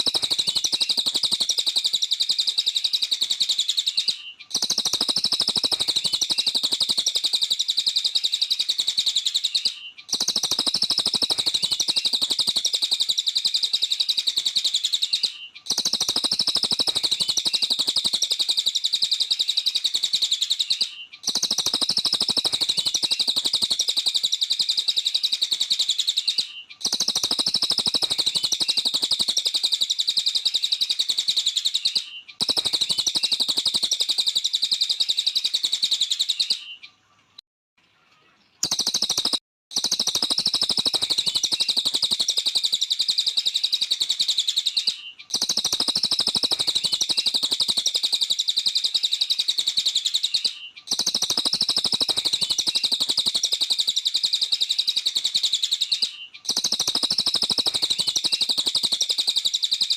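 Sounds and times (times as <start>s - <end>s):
songbird chirping rapidly: 0.0s - 37.4s, 38.0s - 59.9s.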